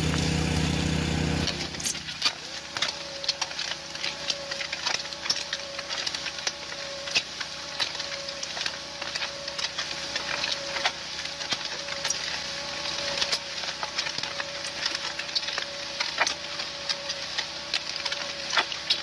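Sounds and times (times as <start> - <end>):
machine whining: 0.0 - 19.0
sharp cracks and crackles: 1.4 - 19.0.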